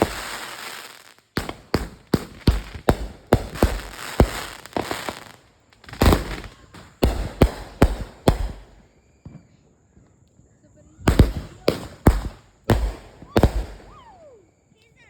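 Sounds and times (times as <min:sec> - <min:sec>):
firecrackers banging: 0:00.0 - 0:09.4, 0:11.0 - 0:14.3.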